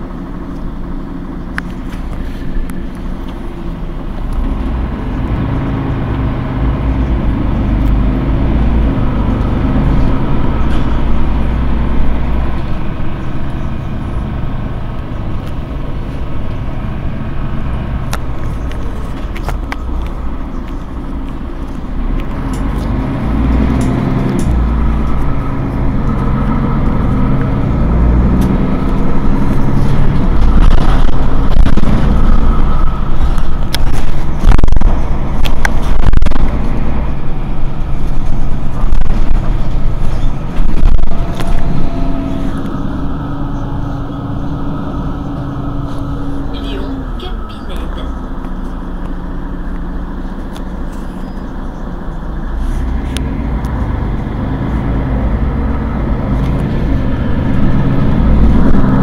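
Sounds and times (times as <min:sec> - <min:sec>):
bus engine accelerating: 0:00.0 - 0:59.0.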